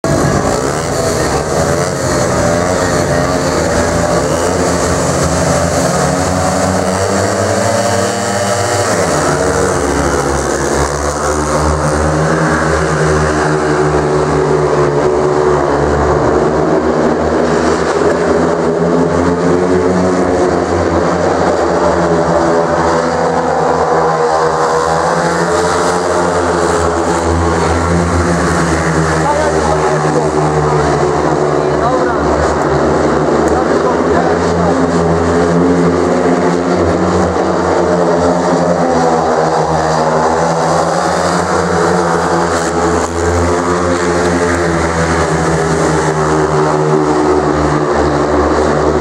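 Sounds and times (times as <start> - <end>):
motorcycle engines racing at high revs: 0.0 - 49.0.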